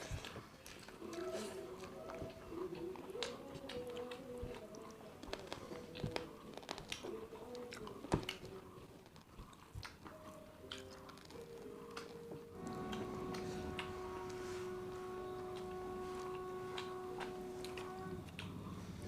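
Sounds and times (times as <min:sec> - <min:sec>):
chewing and crunching food: 0:00.0 - 0:13.0, 0:15.4 - 0:19.0.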